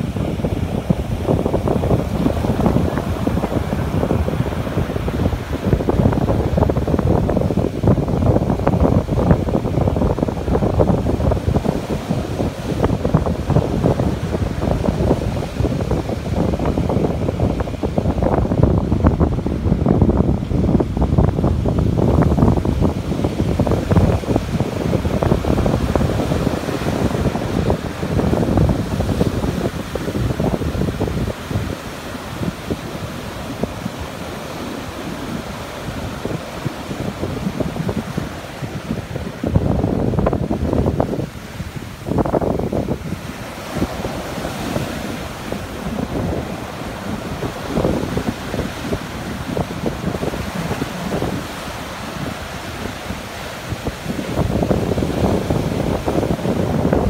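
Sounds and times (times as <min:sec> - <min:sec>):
ocean surf breaking: 0:00.0 - 0:57.0
swash washing over sand: 0:00.0 - 0:57.0
wind buffeting microphone: 0:00.0 - 0:57.0.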